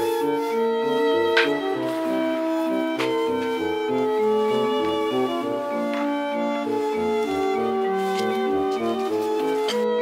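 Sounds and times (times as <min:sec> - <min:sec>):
gentle background music: 0:00.0 - 0:10.0.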